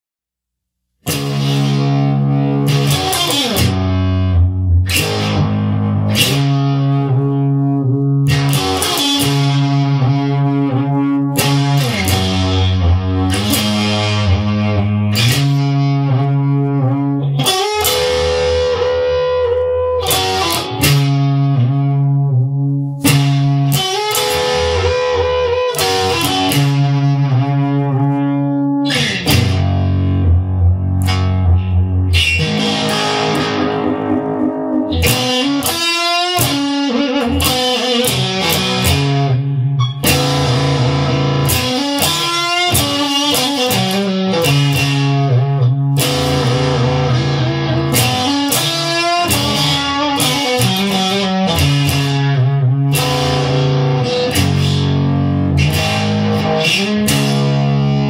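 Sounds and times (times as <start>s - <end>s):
guitar chords ringing: 1.0s - 58.0s.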